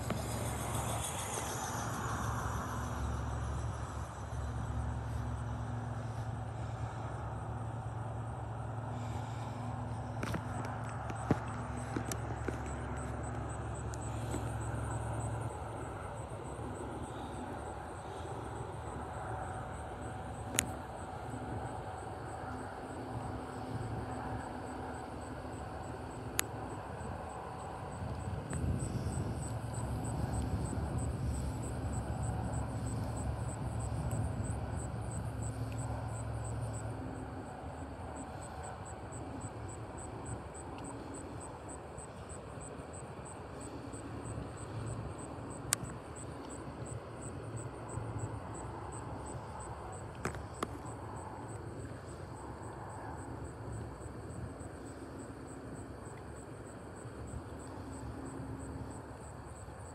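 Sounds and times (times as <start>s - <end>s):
insects chirping: 0.0s - 59.9s
low steady drone: 0.0s - 59.9s.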